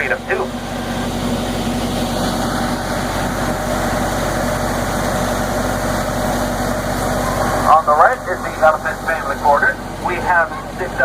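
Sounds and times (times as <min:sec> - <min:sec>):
tram engine rumbling: 0:00.0 - 0:11.0.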